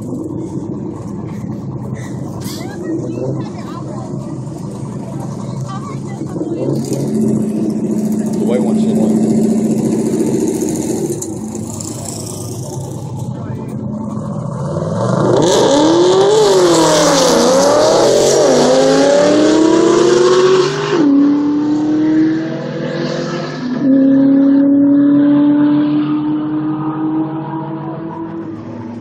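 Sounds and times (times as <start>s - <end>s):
cars accelerating at full throttle: 0.0s - 29.0s.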